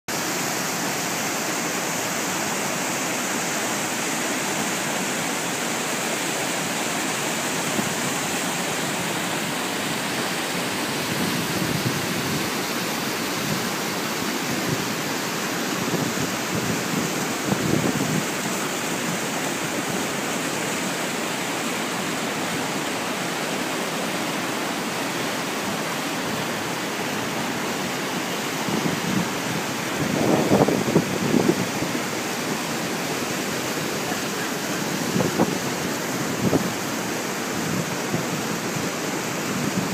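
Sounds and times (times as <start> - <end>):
waterfall and stream rushing: 0.1 - 39.9.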